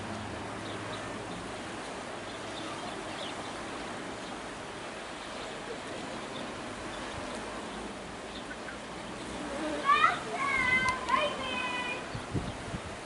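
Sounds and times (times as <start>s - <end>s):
choppy sea water: 0.0s - 13.0s
wind: 0.0s - 13.0s.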